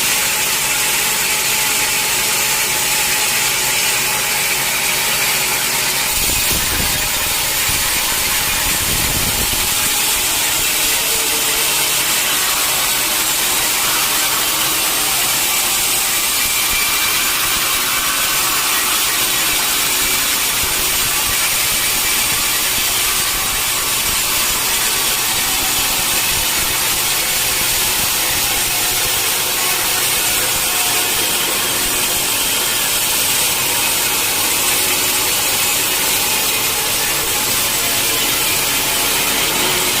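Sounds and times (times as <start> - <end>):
running machinery: 0.0 - 40.0
saw blade cutting log: 0.0 - 40.0.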